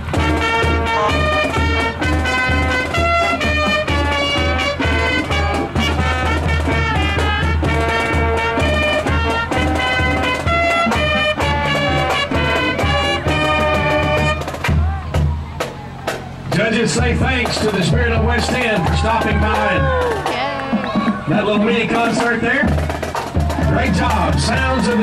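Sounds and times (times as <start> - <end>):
bass drum beat: 0.0 - 25.0
marching band playing: 0.0 - 25.0.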